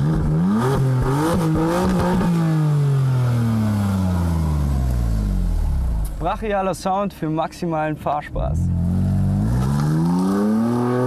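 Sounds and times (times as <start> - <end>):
car engine revving: 0.0 - 6.3, 8.3 - 11.0.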